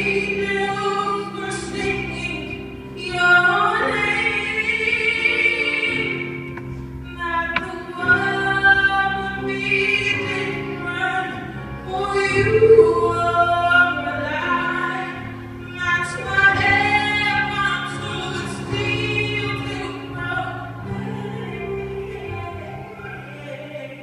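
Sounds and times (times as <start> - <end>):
low sustained accompaniment: 0.0 - 24.0
woman singing into microphone: 0.0 - 24.0.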